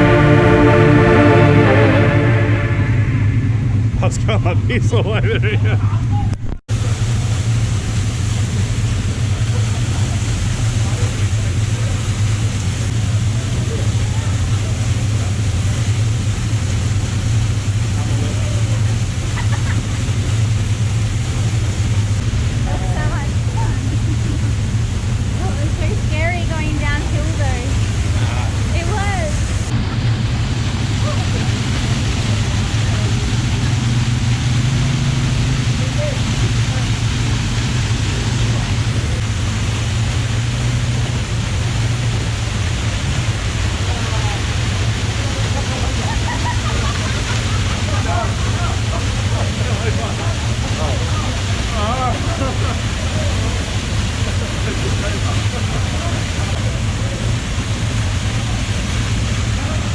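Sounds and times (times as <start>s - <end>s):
rushing noise: 0.0s - 59.9s
quad bike engine running: 3.6s - 59.9s.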